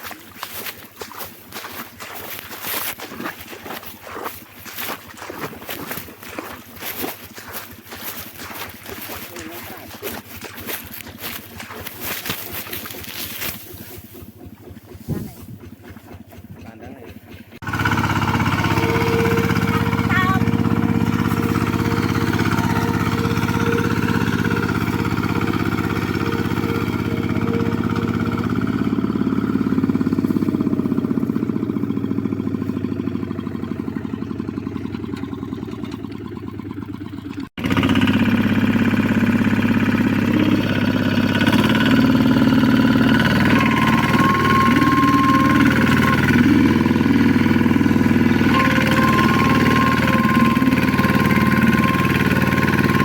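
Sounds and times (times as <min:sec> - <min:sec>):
engine running: 0:00.0 - 0:53.0.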